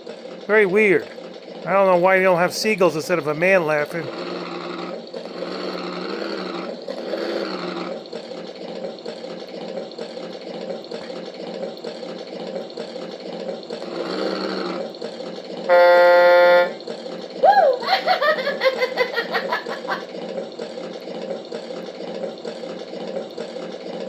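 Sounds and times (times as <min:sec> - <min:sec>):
simulated diesel engine buzz: 0:00.0 - 0:24.0.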